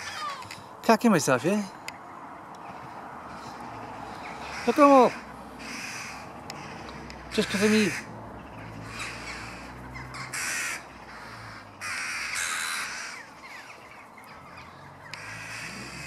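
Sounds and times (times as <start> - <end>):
crows cawing harshly: 0.0 - 16.0.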